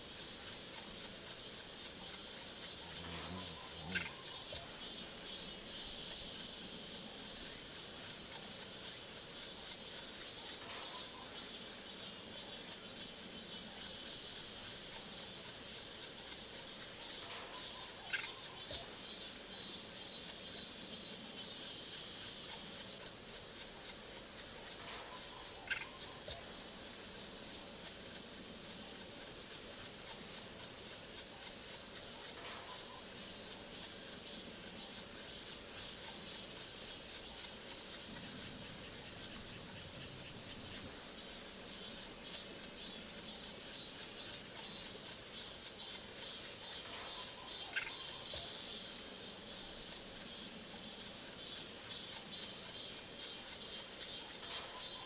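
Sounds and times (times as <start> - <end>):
insect chorus pulsing: 0.0 - 55.0.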